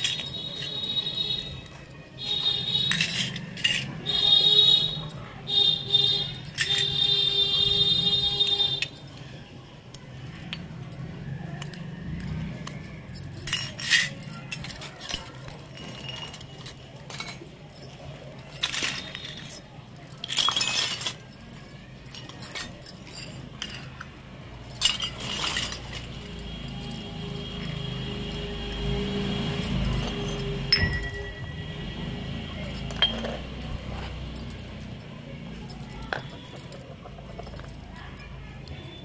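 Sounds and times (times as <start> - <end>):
toy cookware clinking: 0.0 - 39.0.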